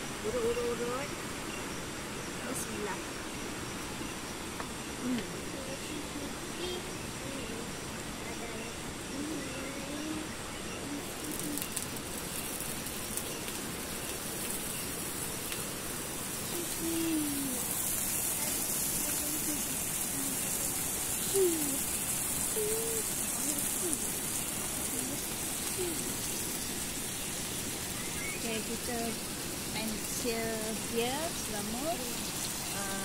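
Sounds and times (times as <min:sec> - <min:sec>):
food sizzling on a grill: 0:04.4 - 0:33.0.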